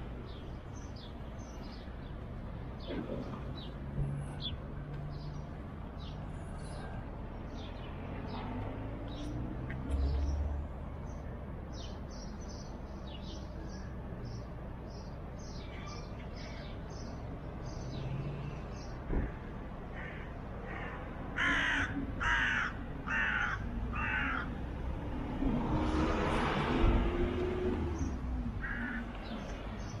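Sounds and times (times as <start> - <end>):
birds chirping: 0.0 - 24.6, 27.7 - 30.0.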